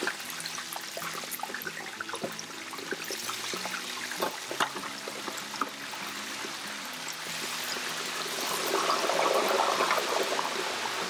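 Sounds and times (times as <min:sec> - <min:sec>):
hot oil sizzling and crackling: 0:00.0 - 0:11.0
oil popping: 0:00.0 - 0:11.0.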